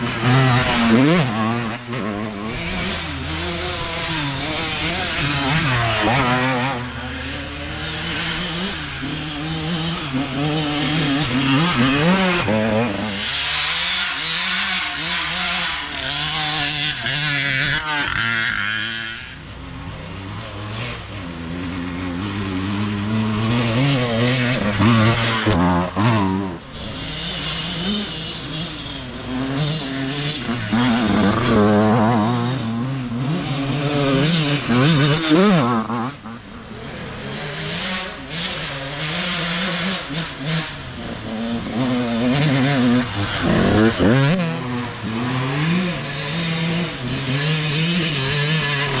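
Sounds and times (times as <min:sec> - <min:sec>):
dirt bike engines revving: 0:00.0 - 0:49.0.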